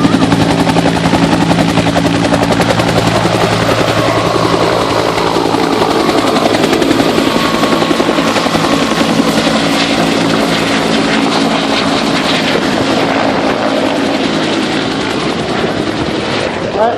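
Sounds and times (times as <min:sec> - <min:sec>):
helicopter rotors chopping: 0:00.0 - 0:16.9
turbine engine noise: 0:00.0 - 0:16.9.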